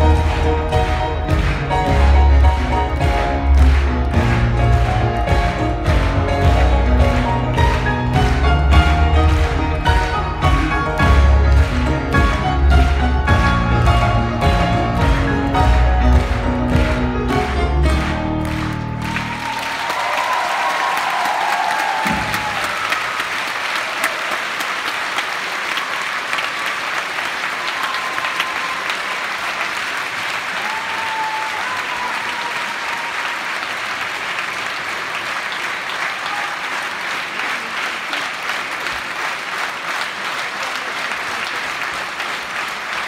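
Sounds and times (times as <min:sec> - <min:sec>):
audience applauding: 0:00.0 - 0:43.0
audience calls: 0:00.0 - 0:43.0.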